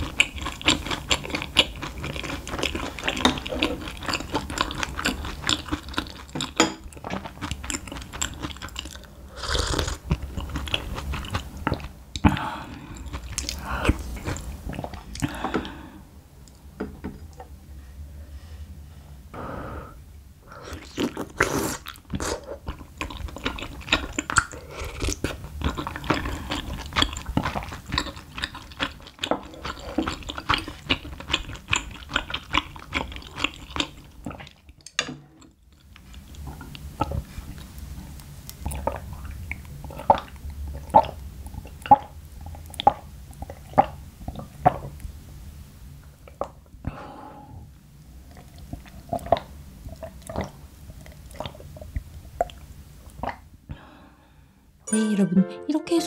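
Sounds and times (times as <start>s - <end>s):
chewing and crunching food: 0.0s - 15.8s, 20.5s - 34.8s, 35.4s - 45.2s, 48.1s - 53.6s.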